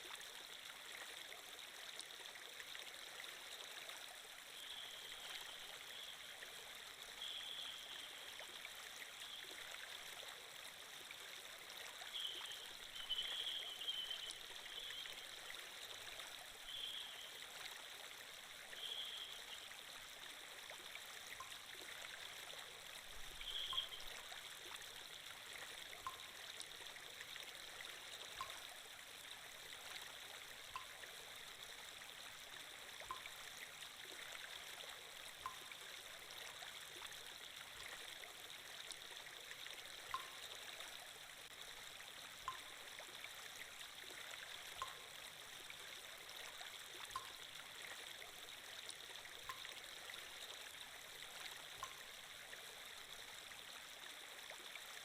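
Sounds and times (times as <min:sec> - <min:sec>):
quiet stream trickling: 0:00.0 - 0:55.0.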